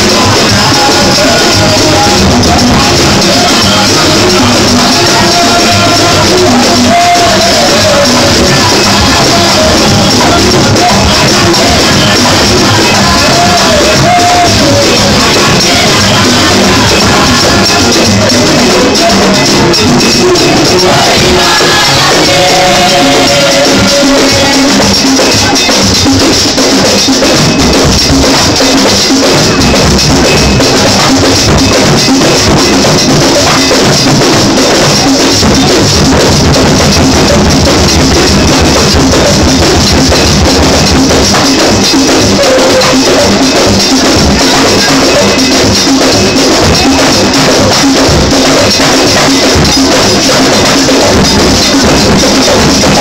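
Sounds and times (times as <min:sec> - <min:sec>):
keyboard: 0:00.0 - 0:48.7
hand drums beating fast: 0:00.0 - 0:53.0.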